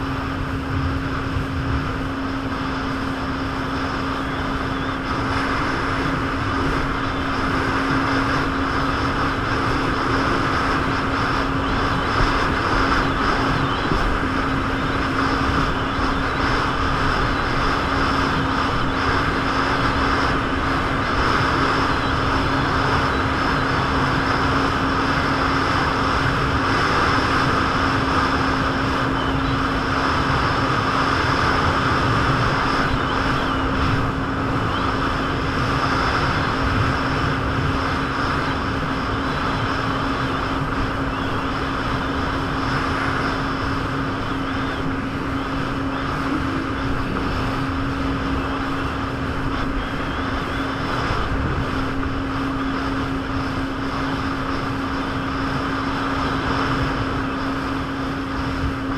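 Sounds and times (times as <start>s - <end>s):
jet ski engine droning: 0.0s - 58.9s
wind: 0.0s - 58.9s.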